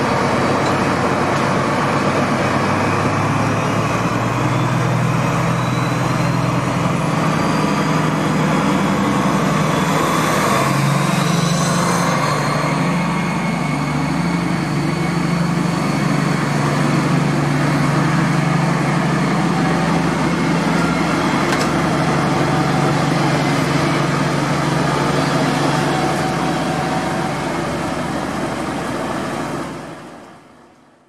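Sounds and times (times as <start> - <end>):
diesel locomotive engine running: 0.0 - 31.0.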